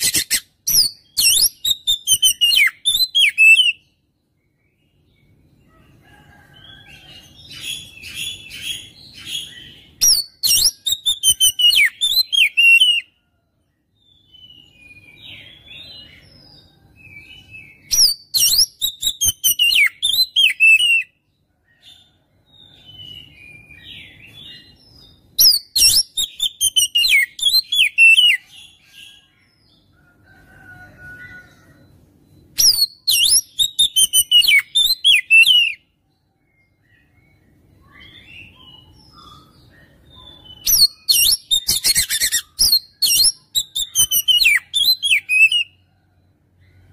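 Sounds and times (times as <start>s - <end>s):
bird singing: 0.0s - 46.9s.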